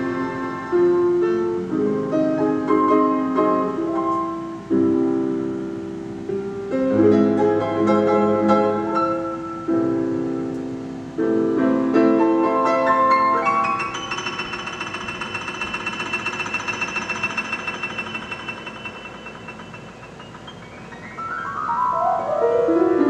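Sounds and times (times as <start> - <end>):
piano chords ringing: 0.0 - 23.0.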